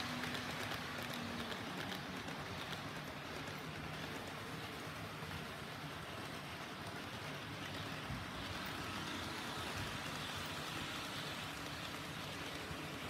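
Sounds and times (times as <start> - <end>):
model train motor hum: 0.0 - 13.0
model train wheels rattling: 0.0 - 13.0.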